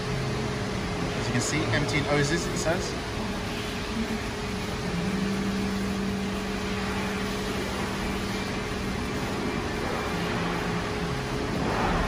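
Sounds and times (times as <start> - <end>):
compressor hiss: 0.0 - 12.0
machine mechanical hum: 0.0 - 12.0.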